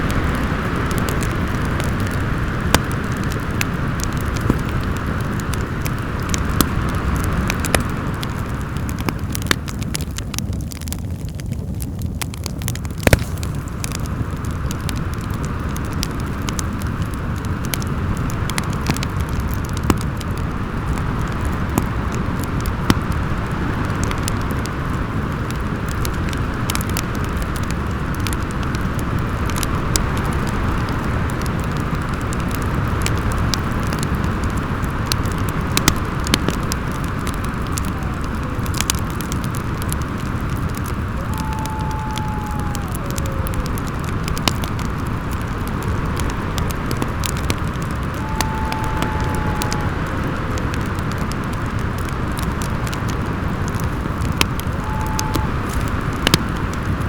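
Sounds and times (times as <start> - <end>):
howling wind: 0.0 - 57.0
wood fire crackling: 0.0 - 57.0.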